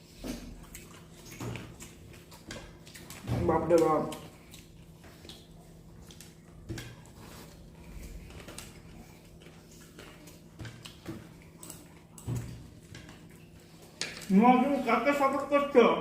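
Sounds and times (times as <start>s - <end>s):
soft chewing: 0.0s - 15.6s
low steady hum: 0.0s - 16.0s.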